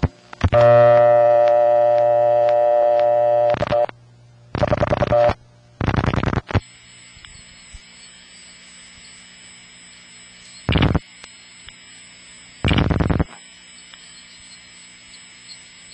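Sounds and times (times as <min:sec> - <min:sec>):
dial pulse clicks: 0:00.0 - 0:04.0, 0:04.6 - 0:15.9
buzzy dial tone: 0:00.0 - 0:15.9
telephone line hiss with whine: 0:00.0 - 0:15.9.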